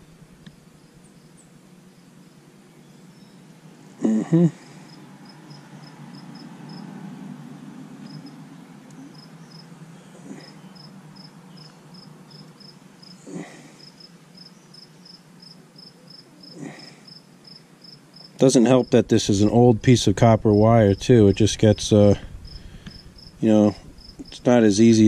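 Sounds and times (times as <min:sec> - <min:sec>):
cricket chirping: 0:00.0 - 0:25.0
low steady hum: 0:00.0 - 0:25.0.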